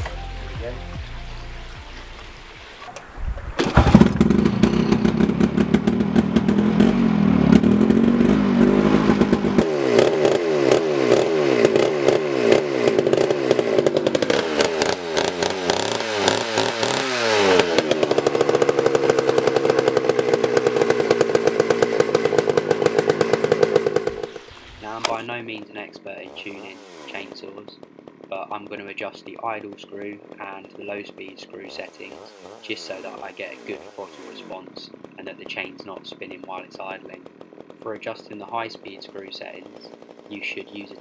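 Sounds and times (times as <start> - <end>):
recoil starter pull: 2.9 - 6.6, 9.0 - 25.4, 26.2 - 41.0
chainsaw engine revving: 3.6 - 41.0.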